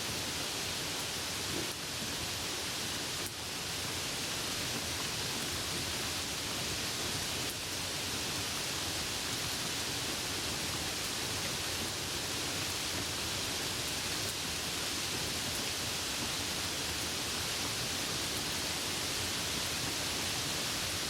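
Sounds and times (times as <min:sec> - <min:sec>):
heavy rain hissing: 0:00.0 - 0:21.0
rain drops ticking: 0:01.0 - 0:21.0.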